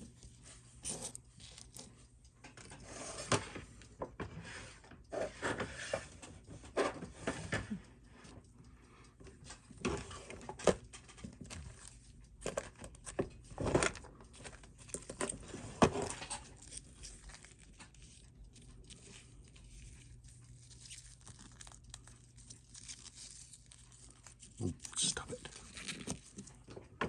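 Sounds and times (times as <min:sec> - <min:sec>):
small tools clicking and scraping: 0:00.2 - 0:27.0.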